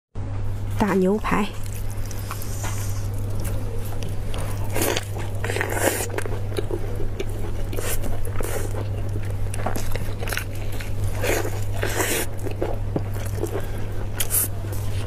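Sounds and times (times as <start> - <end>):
low steady hum: 0.2 - 15.0
wet sticky eating: 1.4 - 15.0.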